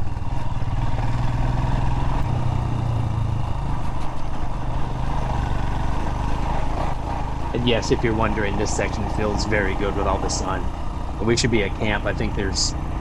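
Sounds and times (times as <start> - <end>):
motorcycle engine on dirt road: 0.0 - 13.0.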